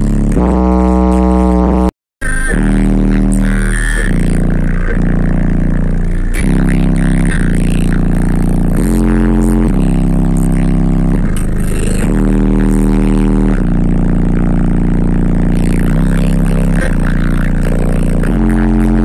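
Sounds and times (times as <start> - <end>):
subwoofer playing deep bass notes: 0.0 - 19.0.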